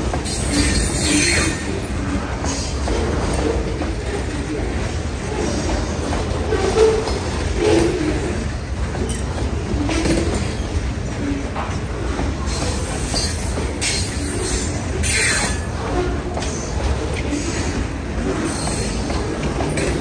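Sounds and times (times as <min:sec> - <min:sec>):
freight train rumbling: 0:00.0 - 0:20.0.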